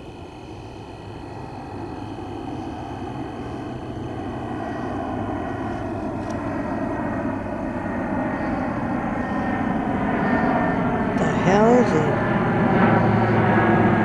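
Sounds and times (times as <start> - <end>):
aircraft engine drone overhead: 0.0 - 14.0.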